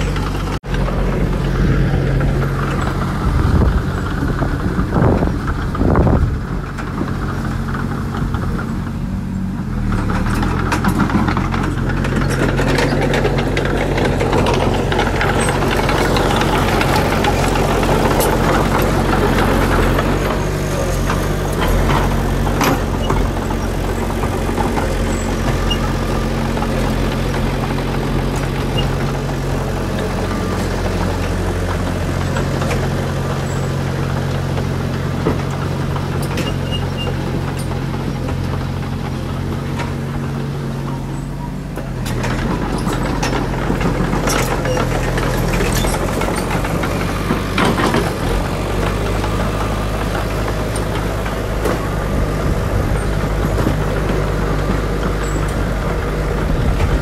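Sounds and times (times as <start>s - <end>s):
blade scraping dirt: 0.0s - 57.0s
bulldozer engine running: 0.0s - 57.0s
steel tracks clattering: 0.0s - 57.0s.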